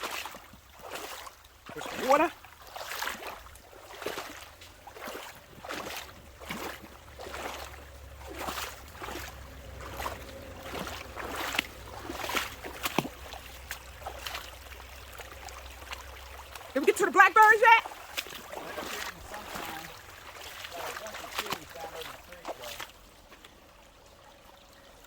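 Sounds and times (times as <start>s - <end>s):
footsteps splashing through creek: 0.0s - 25.0s
stream trickling: 0.0s - 25.0s.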